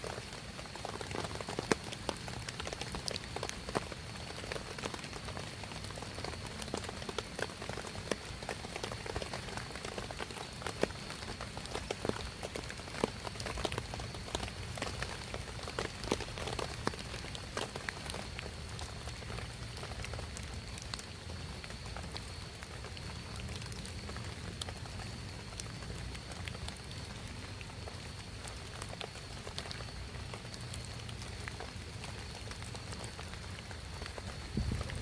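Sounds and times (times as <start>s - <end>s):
raindrops pattering: 0.0s - 35.0s
steady rain falling: 0.0s - 35.0s.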